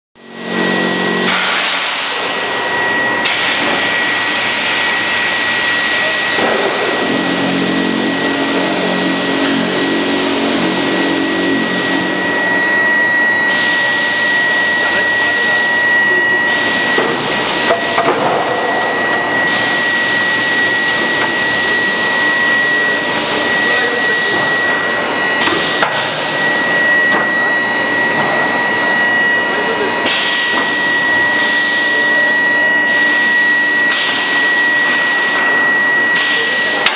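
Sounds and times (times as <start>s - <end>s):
factory machinery with high whine: 0.2s - 36.9s.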